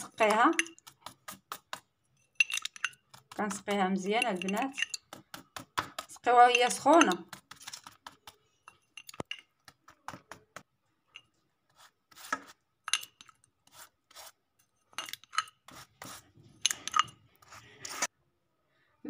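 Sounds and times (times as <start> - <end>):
pastry brush brushing and tapping: 0.0 - 18.1.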